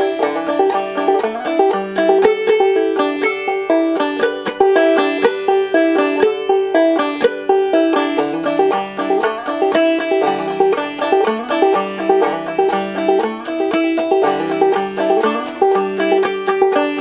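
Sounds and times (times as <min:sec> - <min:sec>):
plucked string tune with bass: 0:00.0 - 0:17.0.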